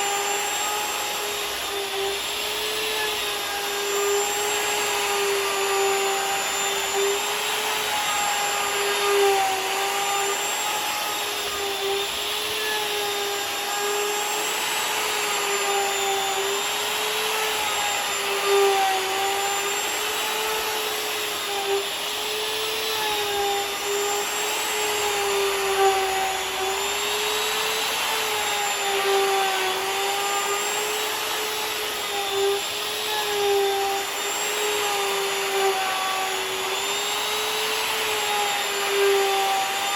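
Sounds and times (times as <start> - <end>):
electric router milling wood: 0.0 - 39.9.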